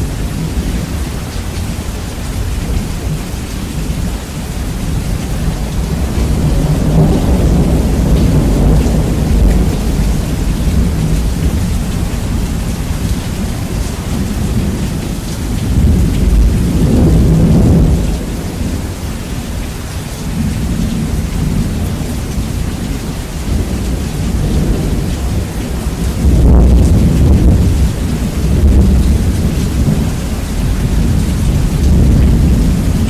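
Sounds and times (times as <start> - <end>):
heavy rain: 0.0 - 33.0
rolling thunder: 0.0 - 33.0.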